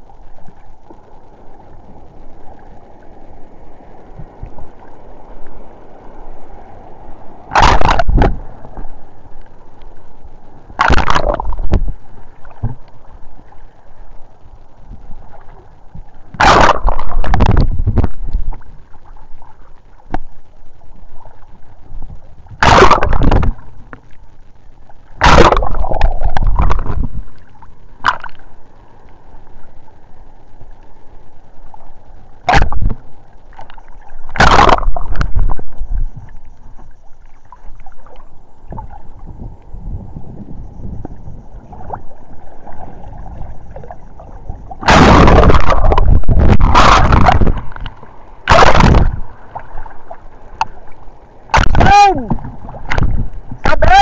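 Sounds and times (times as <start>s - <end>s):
muffled water noise: 0.0s - 54.0s
waves splashing over camera: 0.0s - 54.0s.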